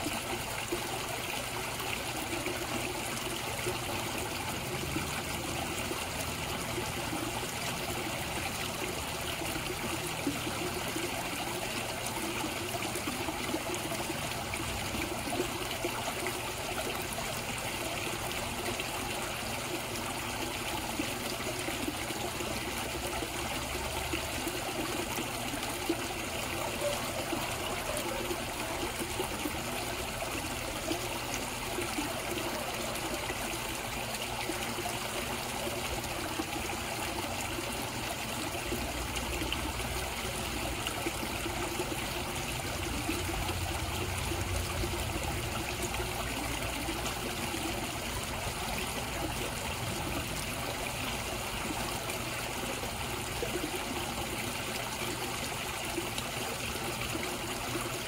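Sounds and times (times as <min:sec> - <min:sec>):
pond water trickling and splashing: 0:00.0 - 0:58.0.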